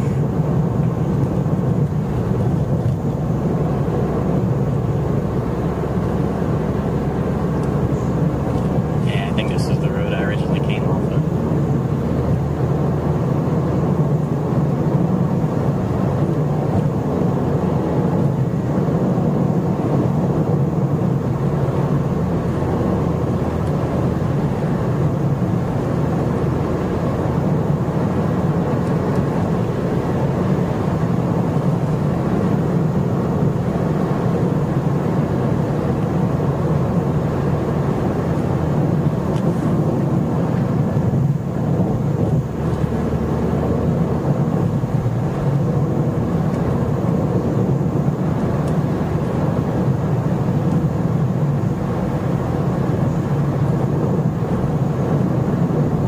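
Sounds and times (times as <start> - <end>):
engine and tyre hum in car: 0.0 - 56.0.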